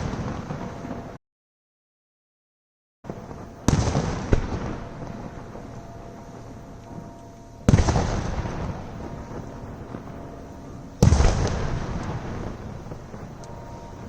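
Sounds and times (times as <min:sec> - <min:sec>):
fireworks bangs: 0:00.0 - 0:01.2, 0:03.0 - 0:14.0
fireworks crackle and rumble: 0:00.0 - 0:01.2, 0:03.0 - 0:14.0.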